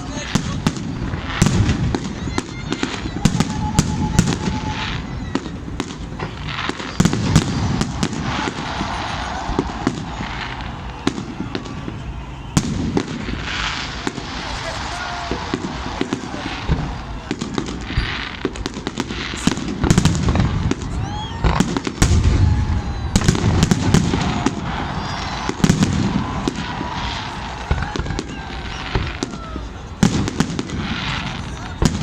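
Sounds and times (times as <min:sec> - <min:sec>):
firework whistles bending in pitch: 0:00.0 - 0:32.0
fireworks cracks and booms: 0:00.0 - 0:32.0.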